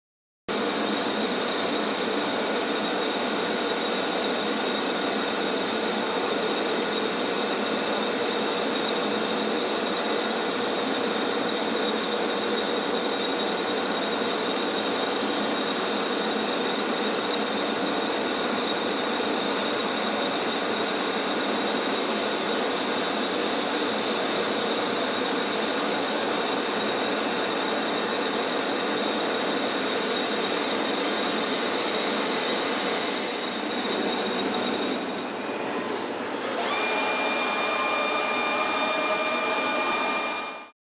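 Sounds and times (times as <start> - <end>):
steady whining tones: 0.6 - 40.7.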